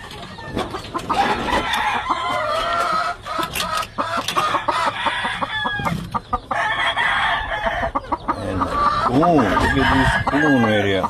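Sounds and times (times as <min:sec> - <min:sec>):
chickens clucking: 0:00.0 - 0:11.0
roosters crowing: 0:00.0 - 0:11.0.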